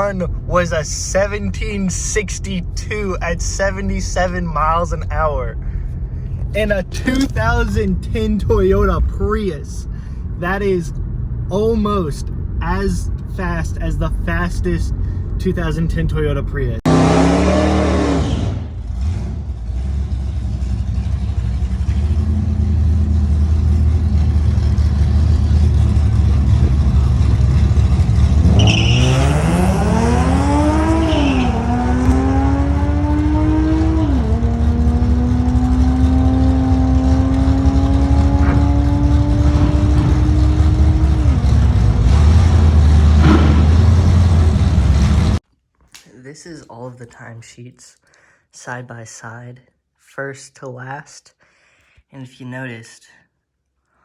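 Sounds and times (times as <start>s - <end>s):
car engine at full throttle: 0.0s - 45.4s
wind and road drone: 1.2s - 45.4s.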